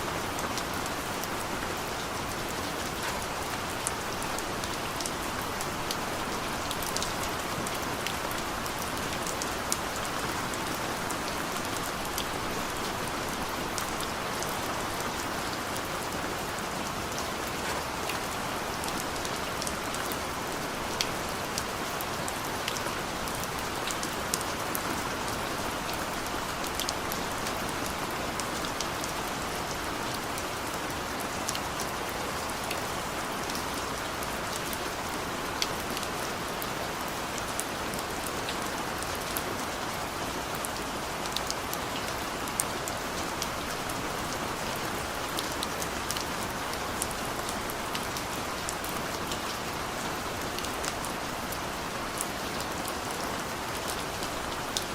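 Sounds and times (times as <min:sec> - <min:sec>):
steady rain with drop ticks: 0:00.0 - 0:54.9.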